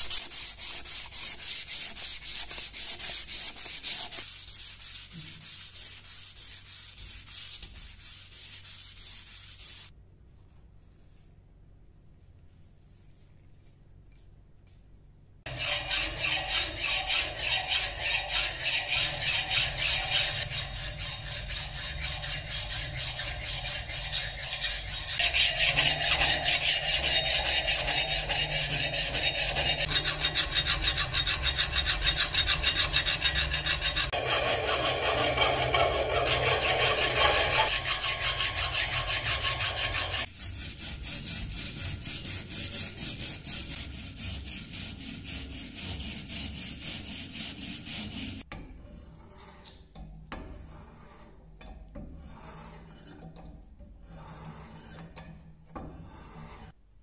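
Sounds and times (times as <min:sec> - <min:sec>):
file rasping on steel blade: 0:00.0 - 0:09.9, 0:15.5 - 0:49.8, 0:50.4 - 0:56.8.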